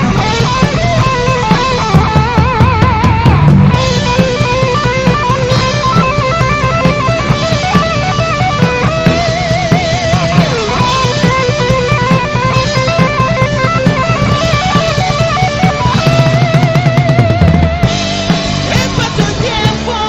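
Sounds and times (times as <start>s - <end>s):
electric guitar lead melody: 0.0s - 20.0s
rock band playing: 0.0s - 20.0s.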